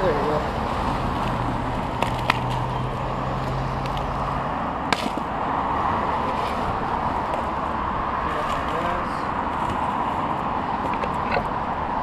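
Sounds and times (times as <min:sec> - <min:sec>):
road traffic noise: 0:00.0 - 0:12.0
vehicle engine hum: 0:00.0 - 0:12.0.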